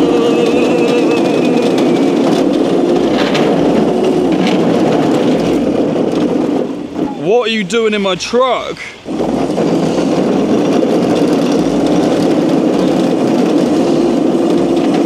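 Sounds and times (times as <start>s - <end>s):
small wheels rattling on rough ground: 0.0s - 15.0s.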